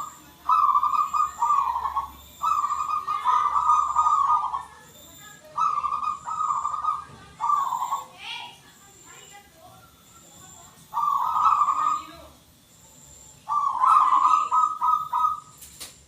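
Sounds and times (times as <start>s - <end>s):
dove cooing: 0.0s - 8.8s, 9.4s - 15.6s.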